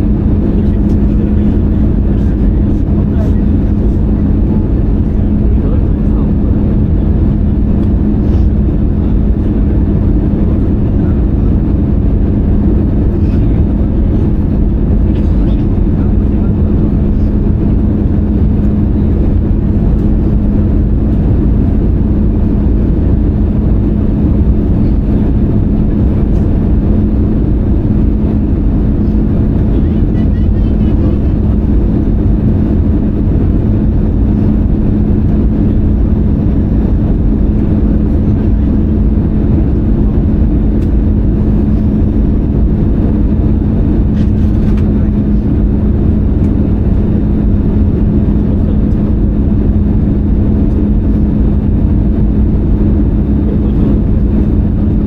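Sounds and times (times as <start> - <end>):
aircraft cabin engine and airflow noise: 0.0 - 55.0
constant low hum: 0.0 - 55.0.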